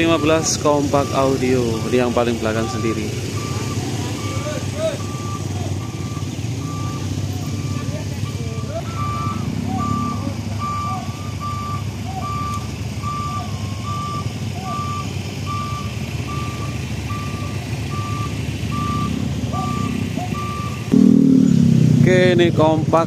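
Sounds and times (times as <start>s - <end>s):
truck reversing alarm beeping: 0.0s - 22.0s
diesel truck engine rumble: 0.0s - 23.0s.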